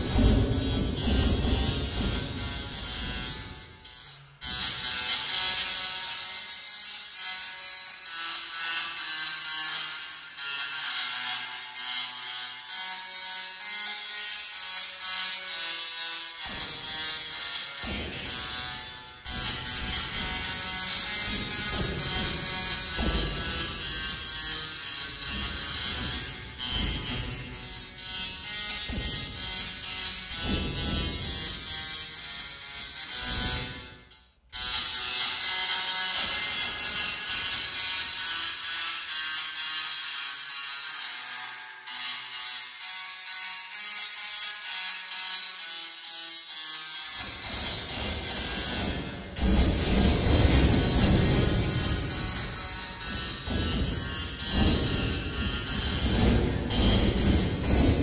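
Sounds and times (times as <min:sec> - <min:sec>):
tesla coil buzzing tune: 0:10.7 - 0:58.0.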